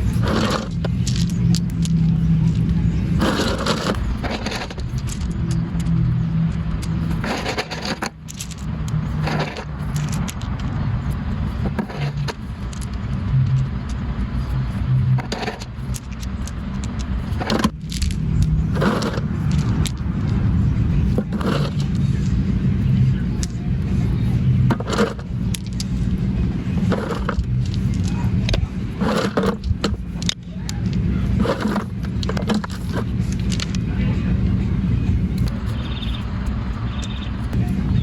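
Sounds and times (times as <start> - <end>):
scraping and clinking: 0.0 - 33.8
motor running steadily: 0.0 - 38.0.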